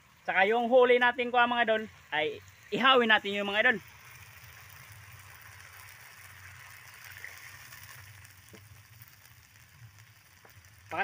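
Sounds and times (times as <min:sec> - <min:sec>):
broth simmering hiss: 0:00.0 - 0:11.0.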